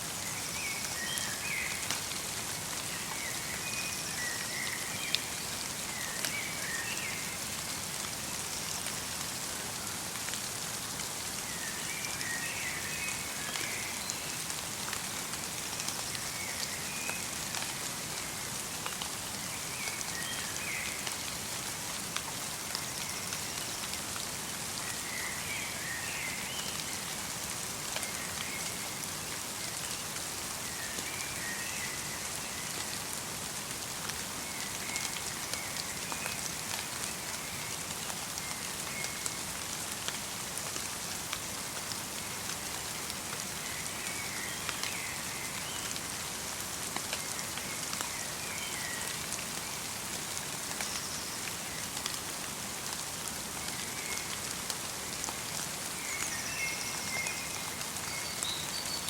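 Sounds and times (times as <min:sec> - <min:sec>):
light rain hiss: 0:00.0 - 0:59.0.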